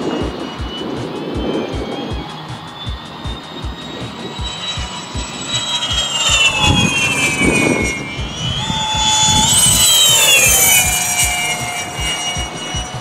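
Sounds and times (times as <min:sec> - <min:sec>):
model jet whining past: 0:00.0 - 0:13.0.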